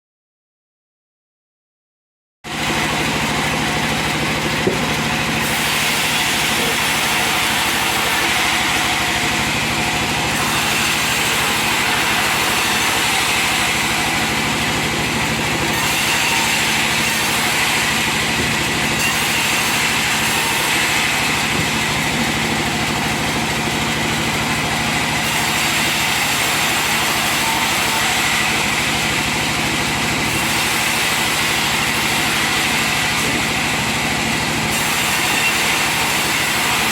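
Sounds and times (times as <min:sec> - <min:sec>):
sawmill machinery running: 0:02.5 - 0:36.9.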